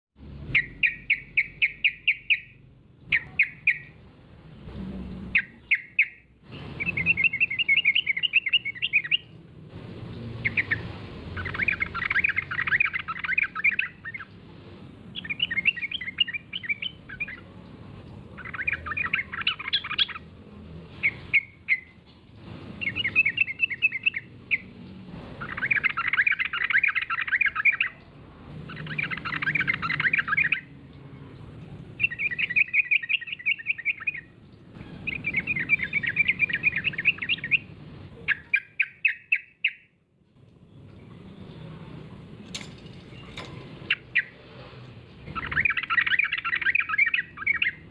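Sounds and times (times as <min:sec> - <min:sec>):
bird chattering song: 0:00.5 - 0:04.0, 0:05.2 - 0:09.4, 0:10.4 - 0:14.4, 0:15.1 - 0:20.4, 0:21.0 - 0:22.0, 0:22.8 - 0:24.8, 0:25.4 - 0:40.0, 0:42.6 - 0:44.4, 0:45.2 - 0:47.9.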